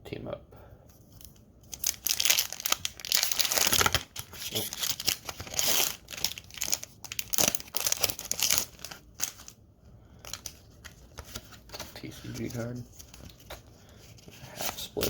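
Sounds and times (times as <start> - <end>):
plastic foil wrapper crinkling: 1.2 - 9.6, 10.2 - 15.0.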